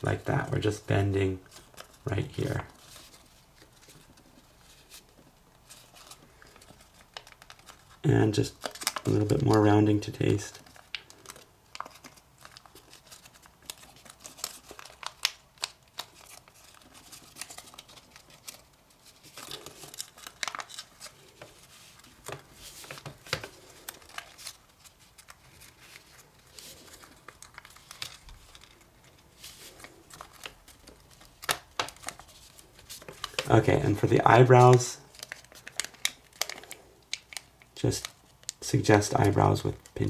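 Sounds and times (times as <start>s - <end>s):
paper crinkling and crackling: 0.0s - 40.0s.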